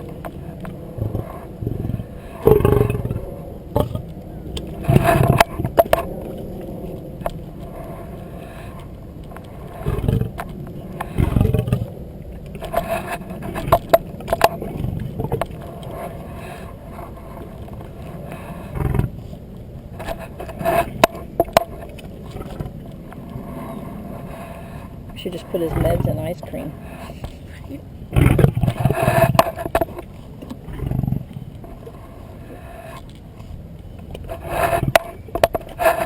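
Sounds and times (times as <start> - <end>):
lion scraping: 0.0 - 12.0, 12.6 - 33.5, 34.2 - 36.0
lion low rumbles: 0.0 - 33.4, 34.1 - 36.0.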